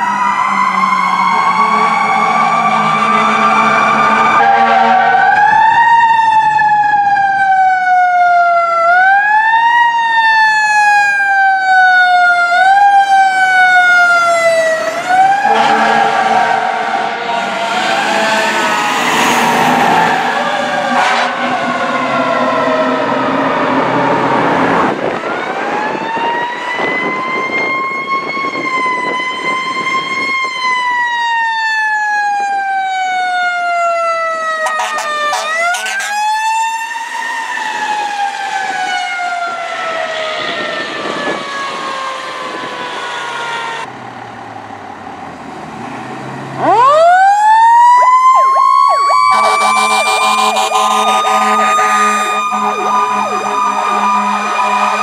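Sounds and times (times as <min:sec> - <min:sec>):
fire truck sirens wailing: 0:00.0 - 0:55.0.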